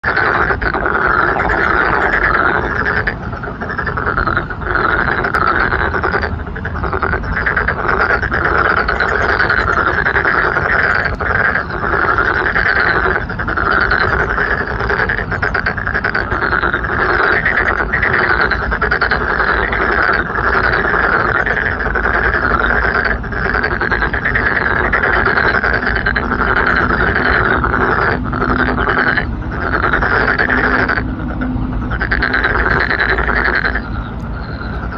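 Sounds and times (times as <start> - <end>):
chorus of frogs croaking: 0.0 - 34.9.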